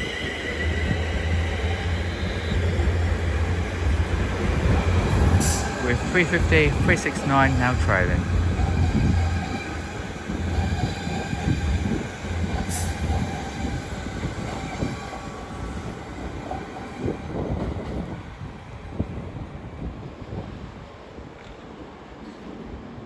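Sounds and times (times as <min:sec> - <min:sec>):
electric train humming: 0:00.0 - 0:18.5.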